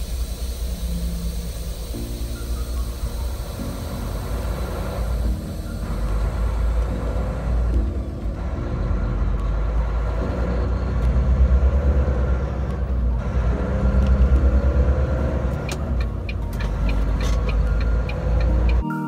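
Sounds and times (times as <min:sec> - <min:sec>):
truck diesel engine accelerating: 0:00.0 - 0:18.8.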